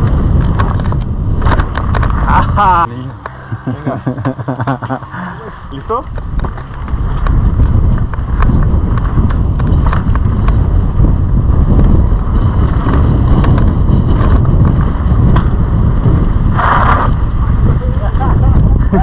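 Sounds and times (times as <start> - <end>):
bike clicks and rattles: 0.0 - 3.4, 5.7 - 19.0
tyres on dirt trail: 0.0 - 19.0
wind rushing over microphone: 0.0 - 19.0.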